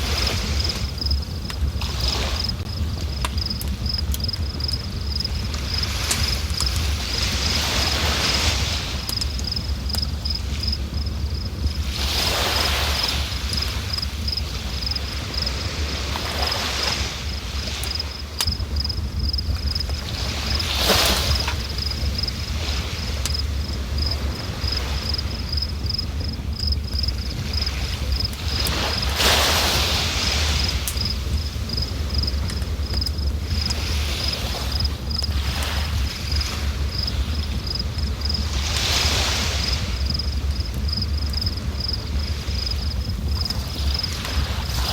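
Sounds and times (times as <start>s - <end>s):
insects chirping: 0.0s - 44.9s.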